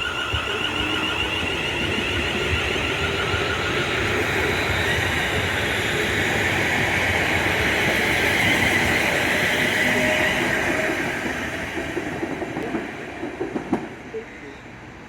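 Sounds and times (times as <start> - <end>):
train rumble: 0.0 - 15.0
train whine: 0.0 - 15.0.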